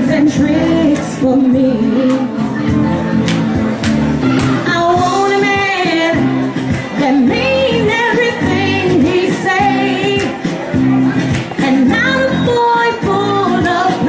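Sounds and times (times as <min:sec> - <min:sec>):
person singing karaoke: 0:00.0 - 0:14.0
recorded backing track: 0:00.0 - 0:14.0.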